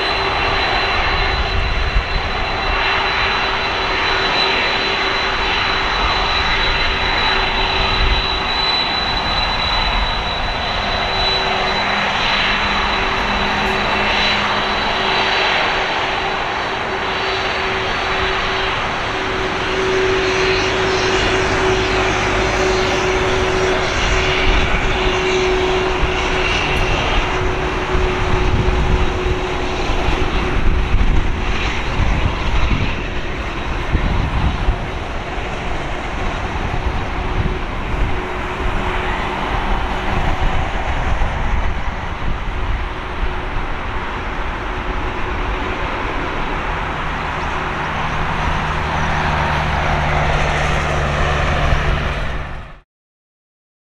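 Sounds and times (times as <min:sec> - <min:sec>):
jet engines taxiing: 0:00.0 - 0:52.8.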